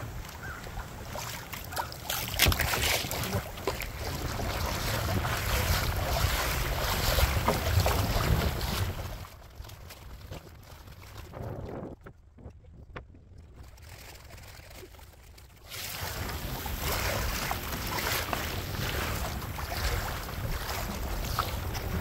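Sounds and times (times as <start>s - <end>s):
water moving around kayak: 0.0s - 22.0s
wind buffeting microphone: 2.3s - 14.9s, 15.8s - 22.0s.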